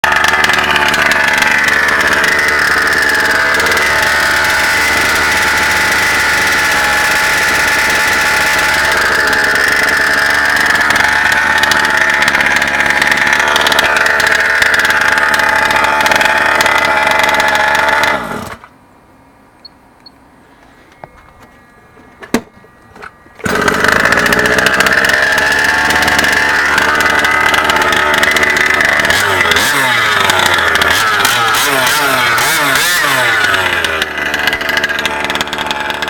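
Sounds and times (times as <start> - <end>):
two-stroke engine running: 0.0 - 18.7, 23.4 - 36.0.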